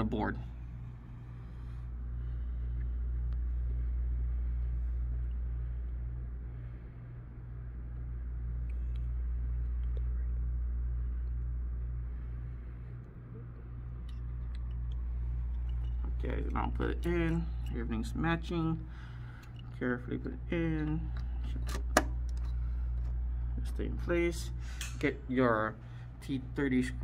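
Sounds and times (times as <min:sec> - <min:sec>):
pulsing machine hum: 0:00.0 - 0:27.0.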